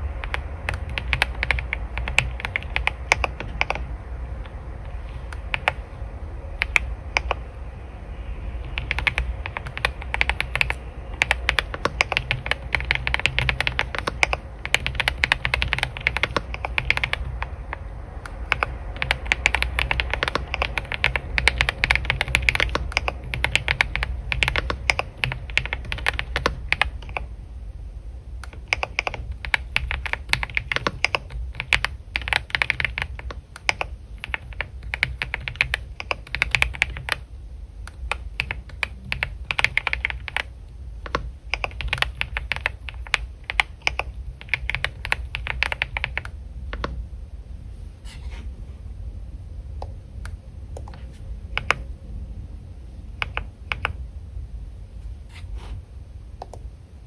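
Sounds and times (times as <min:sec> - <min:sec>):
computer keyboard typing: 0:00.0 - 0:07.4, 0:08.6 - 0:27.3, 0:28.4 - 0:37.3, 0:37.9 - 0:47.0, 0:49.8 - 0:51.9, 0:53.1 - 0:54.0.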